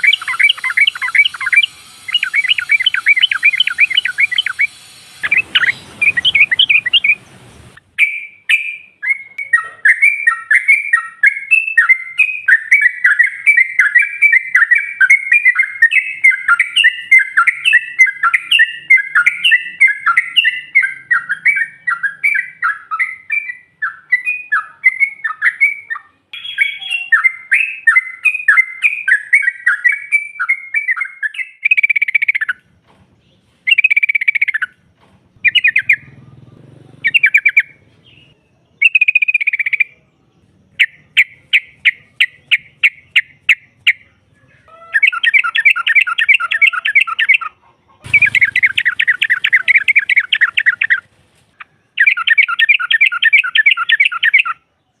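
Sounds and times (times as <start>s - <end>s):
bird chattering song: 0.0s - 34.8s, 35.4s - 55.0s.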